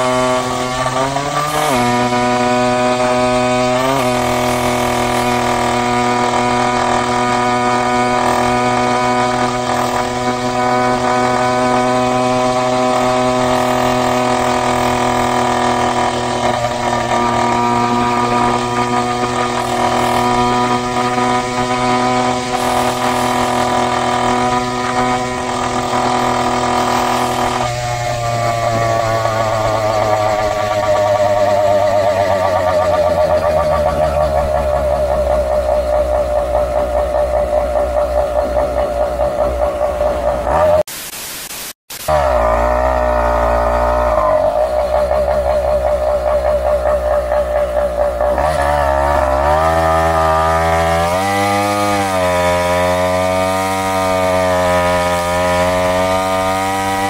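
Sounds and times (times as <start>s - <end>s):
two-stroke engine high-revving buzz: 0.0s - 57.0s.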